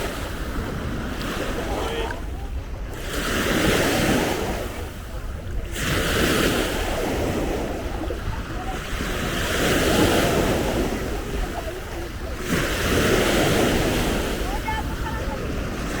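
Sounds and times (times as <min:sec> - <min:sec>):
sea waves breaking on beach: 0:00.0 - 0:16.0
wind rumbling on microphone: 0:00.0 - 0:16.0.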